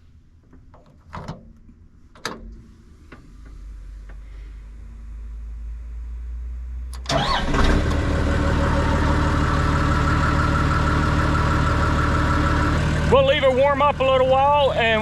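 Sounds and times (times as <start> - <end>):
diesel engine starting and idling: 2.5 - 15.0.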